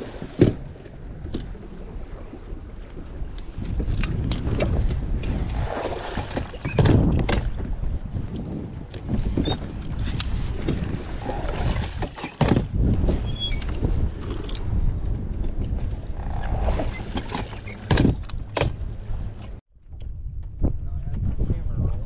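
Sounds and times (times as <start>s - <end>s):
waves slapping boat hull: 0.0s - 19.6s
wind buffeting microphone: 0.0s - 22.0s.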